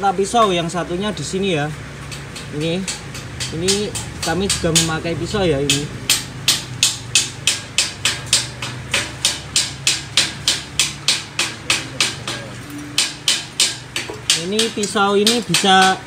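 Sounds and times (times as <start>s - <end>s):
hammer blows on metal: 2.1s - 16.0s.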